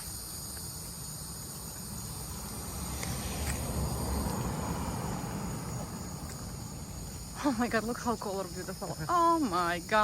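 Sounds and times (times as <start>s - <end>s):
insect chorus drone: 0.0s - 10.0s.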